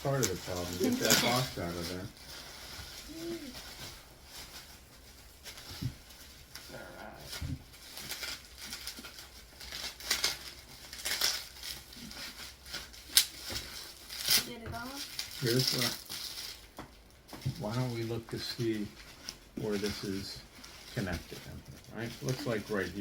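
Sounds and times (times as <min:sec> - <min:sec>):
bubble wrap crinkling: 0:00.0 - 0:23.0.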